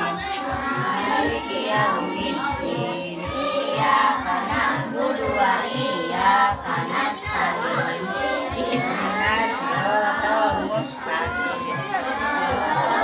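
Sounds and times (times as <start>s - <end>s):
children singing together: 0.0s - 13.0s
music playing: 0.0s - 13.0s.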